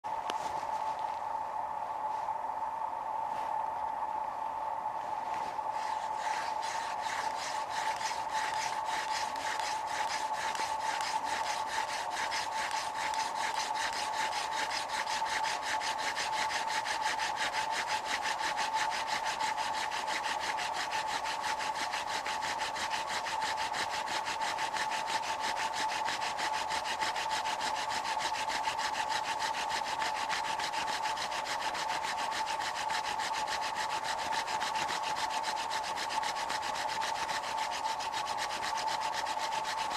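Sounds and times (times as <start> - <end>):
wood-on-wood rubbing of hand drill: 5.3 - 39.9.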